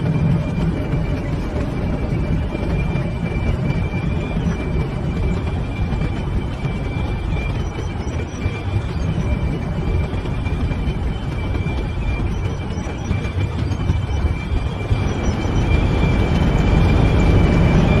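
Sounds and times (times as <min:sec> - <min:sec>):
heavy machinery low rumble: 0:00.0 - 0:18.0
high-pitched machine whine: 0:00.0 - 0:18.0.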